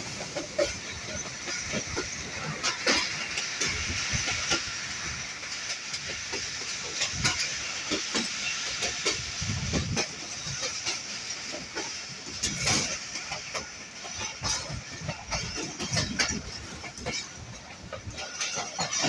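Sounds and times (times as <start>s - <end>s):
rushing wind: 0.0s - 19.0s
train rolling noise: 0.0s - 19.0s
wheels clacking on rails: 0.0s - 19.0s.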